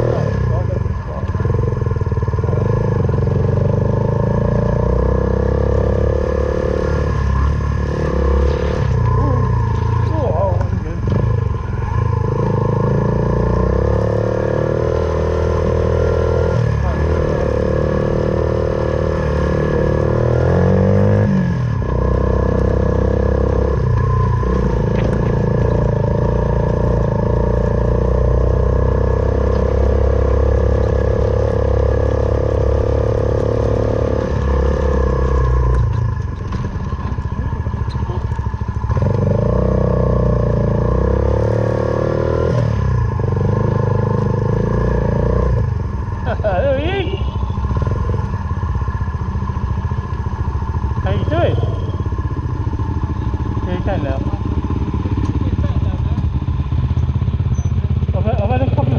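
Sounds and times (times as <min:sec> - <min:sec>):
motorcycle engine revving and easing off: 0:00.0 - 0:58.9.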